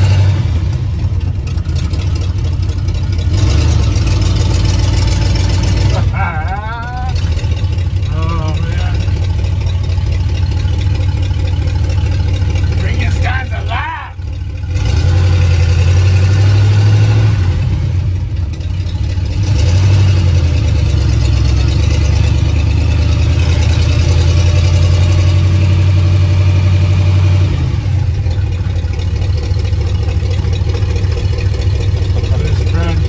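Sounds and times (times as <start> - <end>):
engine running loudly: 0.0 - 33.0.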